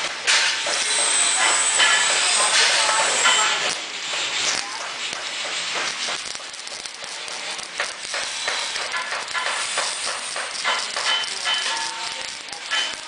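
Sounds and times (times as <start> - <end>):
welding arc crackling hiss: 0.0 - 13.0.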